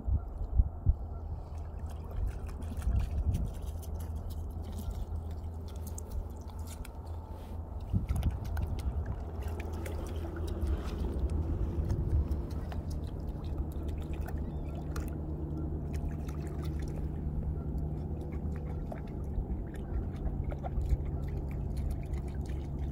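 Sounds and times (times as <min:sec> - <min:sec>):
steady low rumble: 0:00.0 - 0:22.9
water splashing and dripping: 0:01.4 - 0:22.9.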